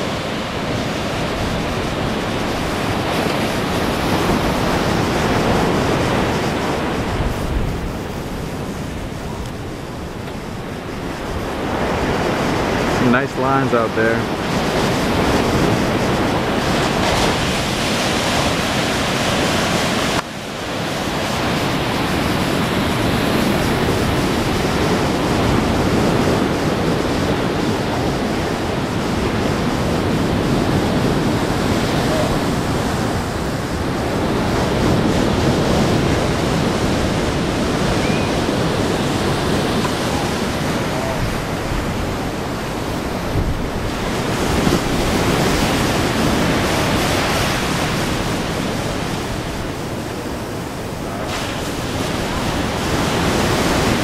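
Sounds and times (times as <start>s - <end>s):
ocean waves breaking: 0.0s - 54.0s
wind on microphone: 0.0s - 54.0s.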